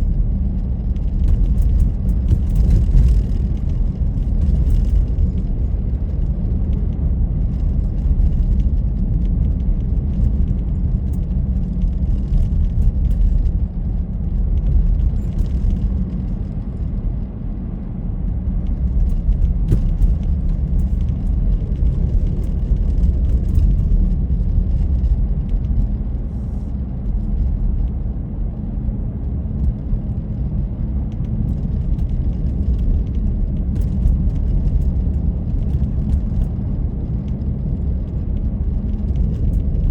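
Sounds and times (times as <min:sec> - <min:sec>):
car driving rumble: 0:00.0 - 0:39.9
road and wind noise: 0:00.0 - 0:39.9.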